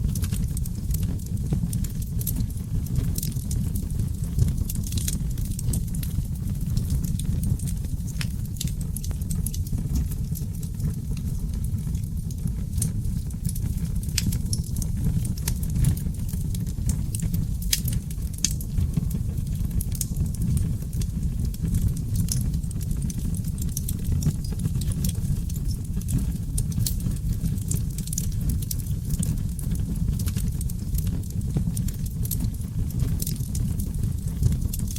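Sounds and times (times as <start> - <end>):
logs crackling and popping: 0.0 - 34.9
low rumble of flames: 0.0 - 34.9.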